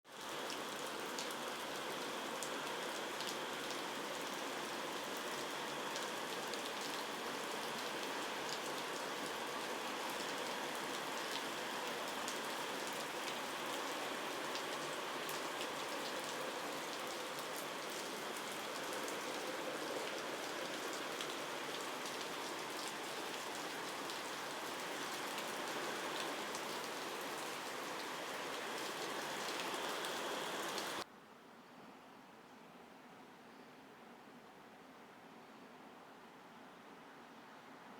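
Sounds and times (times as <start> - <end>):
steady rain pattering: 0.1 - 31.1.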